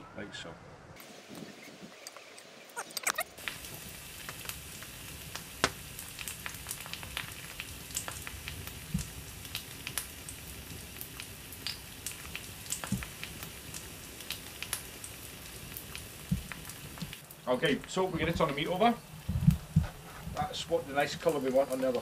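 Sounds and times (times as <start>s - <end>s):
embers crackling and popping: 1.0s - 22.0s
meat sizzling on a grill: 3.0s - 22.0s.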